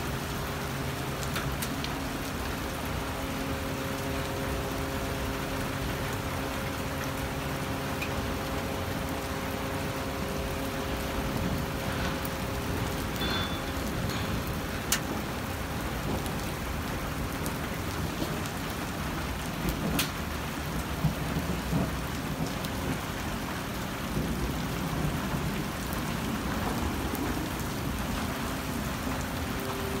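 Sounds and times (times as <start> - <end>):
rain and hail falling: 0.0 - 30.0
hailstones ticking: 0.1 - 30.0.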